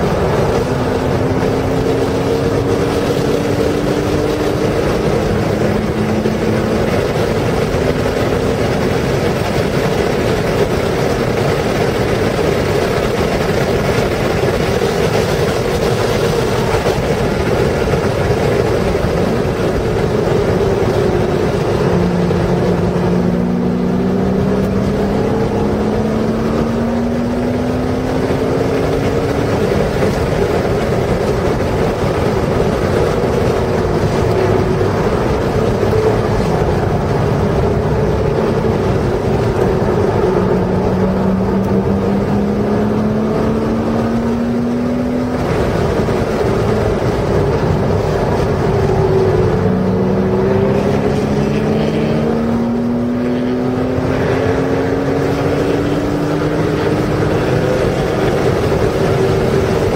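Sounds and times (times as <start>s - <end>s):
sports car engine revving: 0.0s - 59.9s
wind and tyre noise: 0.0s - 59.9s.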